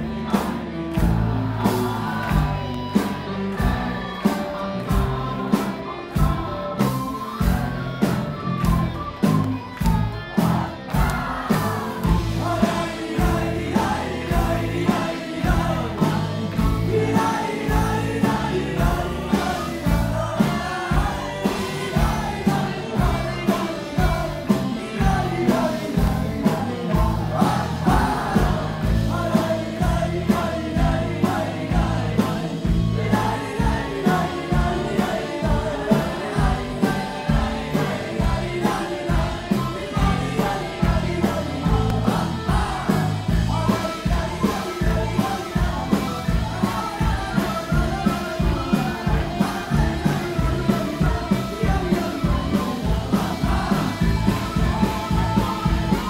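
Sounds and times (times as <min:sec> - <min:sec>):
live rock band playing: 0:00.0 - 0:56.0
voices singing: 0:00.0 - 0:56.0.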